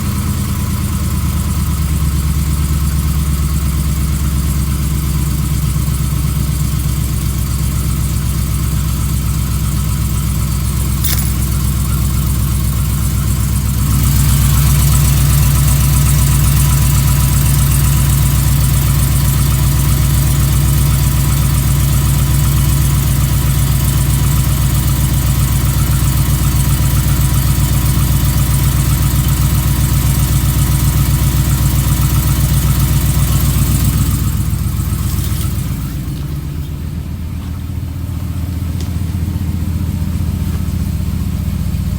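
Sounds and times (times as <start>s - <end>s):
engine knocking: 0.0s - 41.9s
truck engine running: 0.0s - 41.9s.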